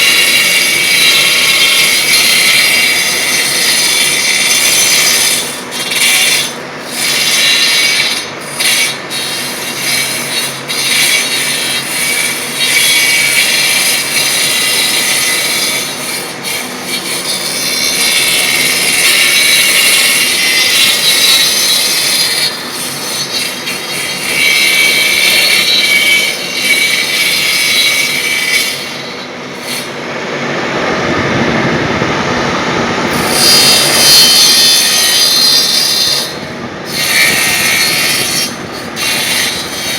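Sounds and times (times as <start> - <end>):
lathe cutter shaving wood hiss: 0.0 - 31.2, 32.6 - 39.9
low lathe rumble: 0.0 - 39.9.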